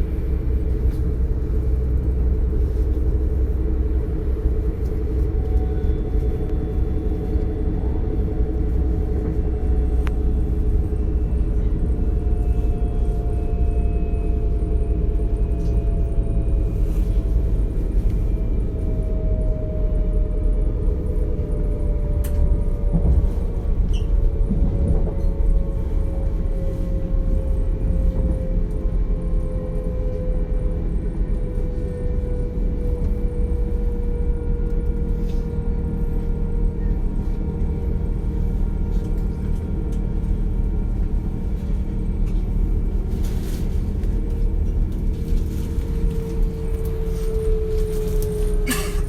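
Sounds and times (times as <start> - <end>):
train running rumble: 0.0 - 49.0.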